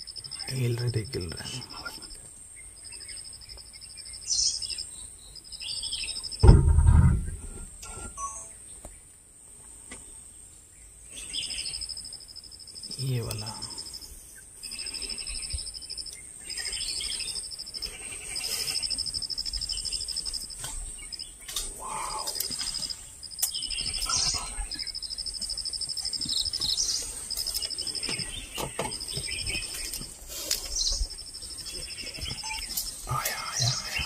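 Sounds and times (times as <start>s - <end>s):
bird chirps: 0.0s - 6.5s, 10.8s - 34.0s
insect hiss: 0.0s - 8.1s, 9.4s - 34.0s
pulsing insect trill: 0.0s - 8.5s, 11.3s - 34.0s.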